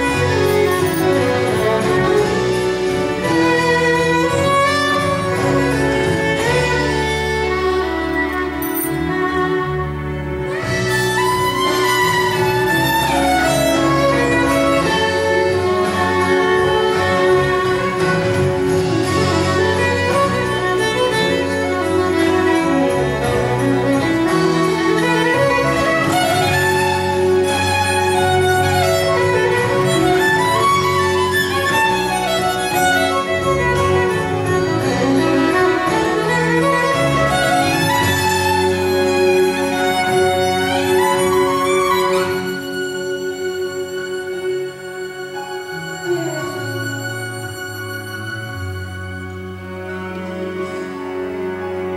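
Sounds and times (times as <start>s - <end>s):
bowed violin melody: 0.0s - 51.9s
low accompaniment: 0.0s - 51.9s.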